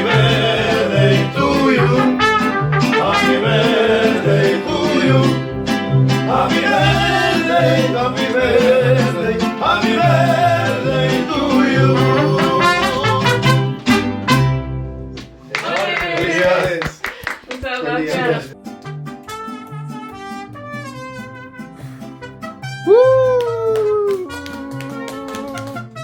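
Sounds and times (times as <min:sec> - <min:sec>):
mariachi band playing and singing: 0:00.0 - 0:17.0, 0:17.6 - 0:26.0.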